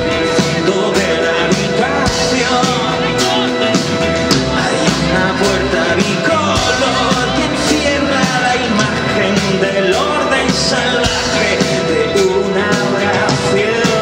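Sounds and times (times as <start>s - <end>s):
live rock band playing: 0.0s - 14.0s
person singing: 0.0s - 14.0s.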